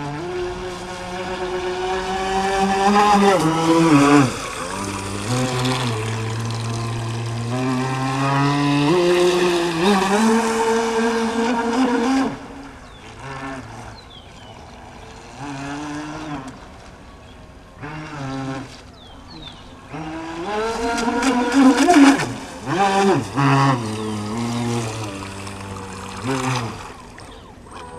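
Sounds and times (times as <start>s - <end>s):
electric motor whine: 0.0s - 16.8s, 19.5s - 27.9s.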